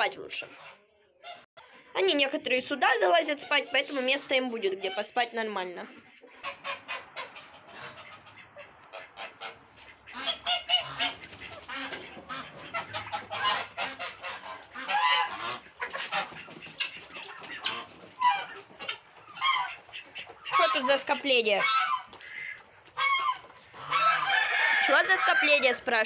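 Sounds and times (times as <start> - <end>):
geese honking: 2.9 - 26.0.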